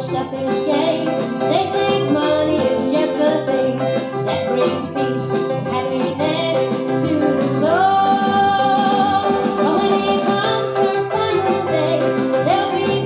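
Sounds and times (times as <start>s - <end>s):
banjo: 0.0s - 13.0s
guitar: 0.0s - 13.0s
person singing: 0.0s - 13.0s.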